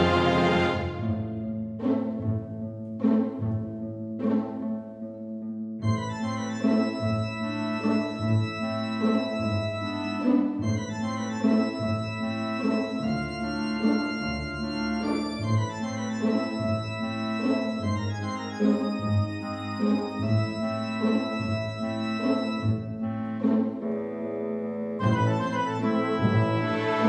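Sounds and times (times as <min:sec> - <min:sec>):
organ music: 0:00.0 - 0:01.4, 0:05.8 - 0:27.0.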